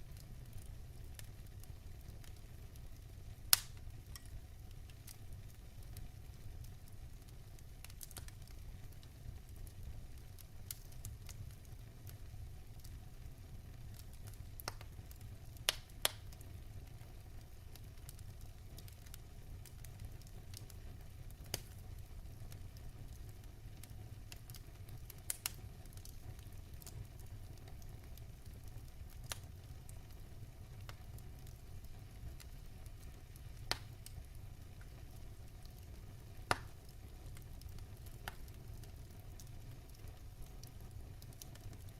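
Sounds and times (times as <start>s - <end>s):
fire crackling and popping: 0.0s - 41.9s
fire rumbling: 0.0s - 41.9s.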